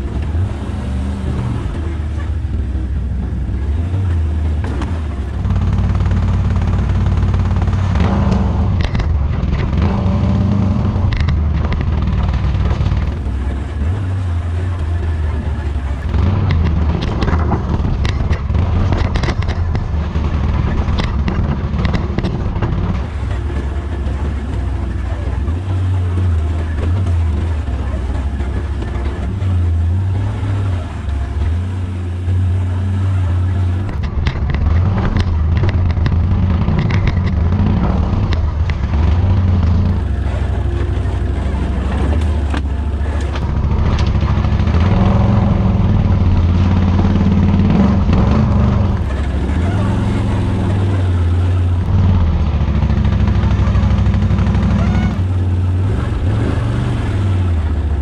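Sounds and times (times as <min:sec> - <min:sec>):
atv engine running at low revs: 0:00.0 - 0:58.0
knocks and rattles: 0:00.0 - 0:58.0.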